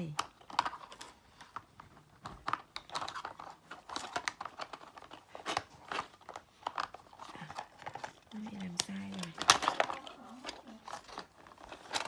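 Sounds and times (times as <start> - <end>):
plastic lids clicking and rattling: 0.0 - 12.0.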